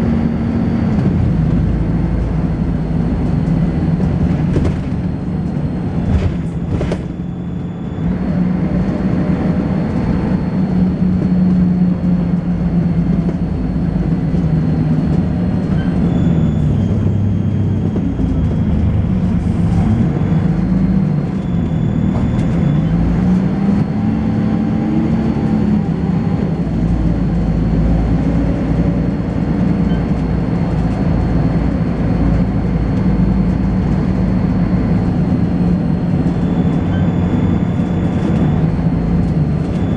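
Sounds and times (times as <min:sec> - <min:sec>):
bus diesel engine: 0:00.0 - 0:39.9
deep rumble: 0:00.0 - 0:39.9.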